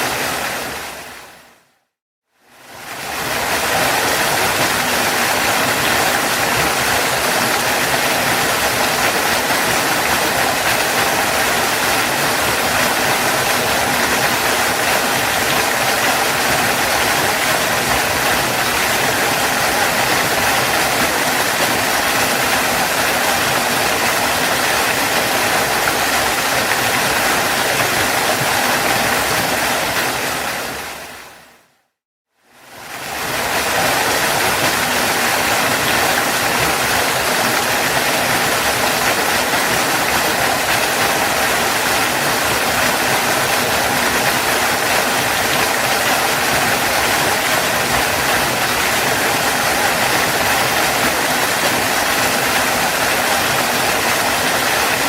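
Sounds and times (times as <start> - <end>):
waterfall rushing: 0.0 - 1.6, 2.6 - 31.7, 32.6 - 55.0.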